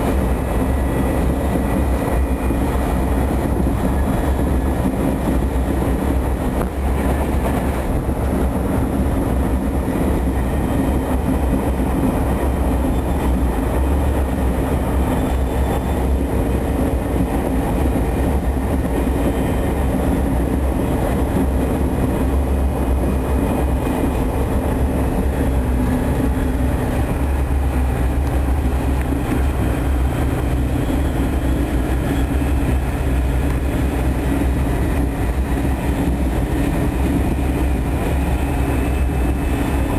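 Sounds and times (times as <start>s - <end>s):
train rumbling inside carriage: 0.0s - 39.9s.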